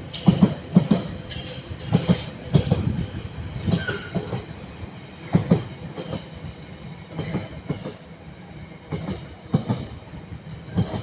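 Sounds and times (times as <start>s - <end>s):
train wheels clacking over rail joints: 0.0s - 4.6s, 5.2s - 8.1s, 8.9s - 11.0s
train rumble: 0.0s - 11.0s.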